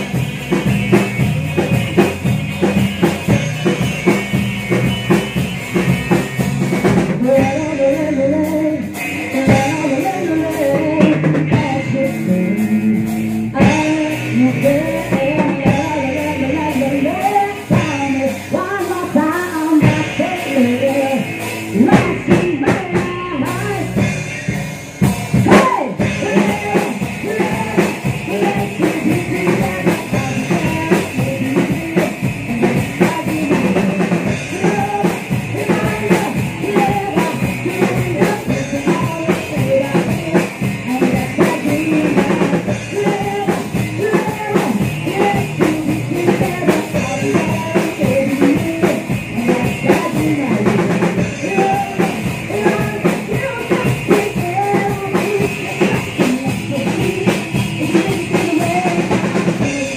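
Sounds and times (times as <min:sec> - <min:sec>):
bass guitar: 0:00.0 - 0:59.9
drum kit steady beat: 0:00.0 - 0:59.9
electric guitar: 0:00.0 - 0:59.9
woman singing into a microphone: 0:06.9 - 0:24.2, 0:25.3 - 0:59.9.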